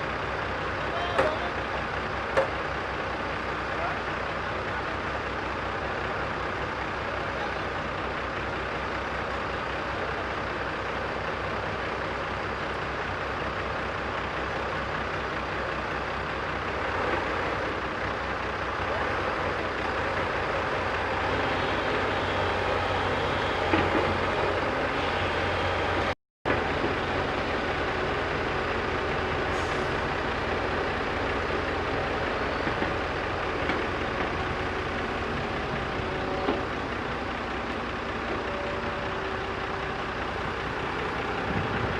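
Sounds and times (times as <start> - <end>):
diesel digger engine under load: 0.0 - 41.9.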